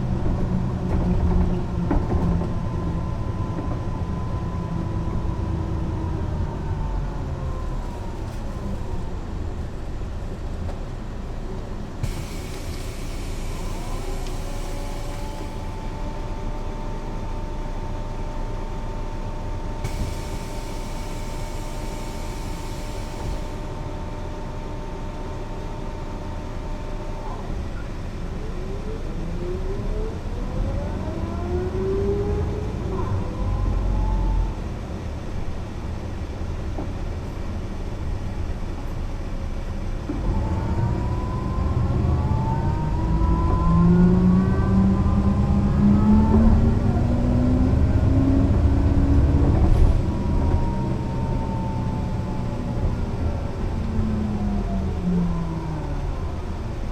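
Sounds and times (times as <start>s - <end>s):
bus engine rumble: 0.0s - 56.9s.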